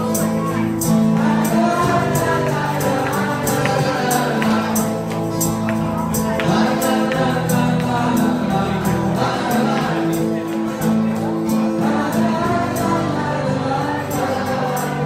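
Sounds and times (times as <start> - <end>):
acoustic guitar strumming: 0.0 - 15.0
person singing: 0.0 - 15.0.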